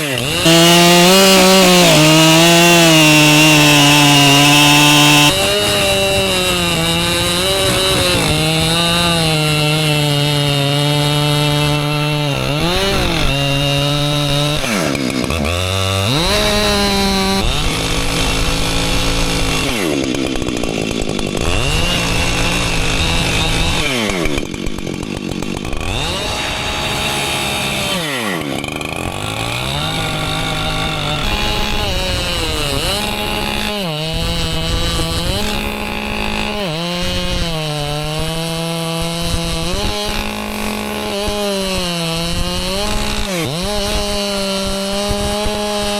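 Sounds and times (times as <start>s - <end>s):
chainsaw cutting stump: 0.0s - 45.9s.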